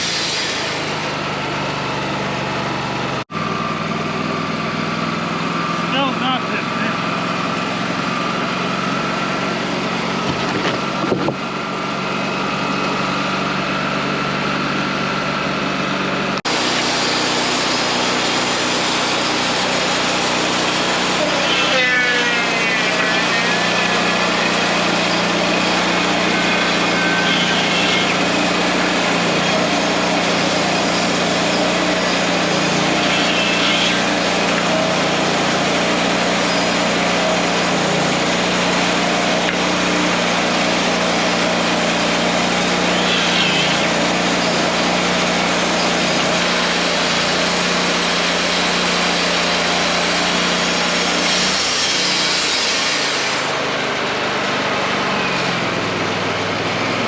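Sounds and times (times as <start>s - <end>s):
band sawmill cutting log: 0.0s - 57.0s
engine hum: 0.0s - 57.0s.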